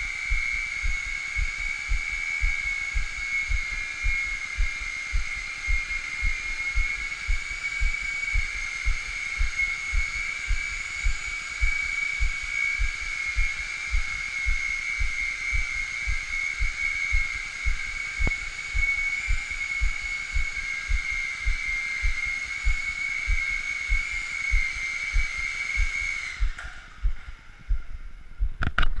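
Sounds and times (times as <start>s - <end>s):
toy helicopter motor whining: 0.0s - 27.4s
low pulse: 0.0s - 29.0s.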